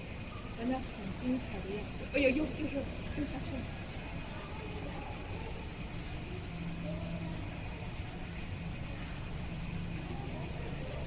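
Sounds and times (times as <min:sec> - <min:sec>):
low mechanical hum: 0:00.0 - 0:11.0
murmur of distant voices: 0:00.0 - 0:11.0.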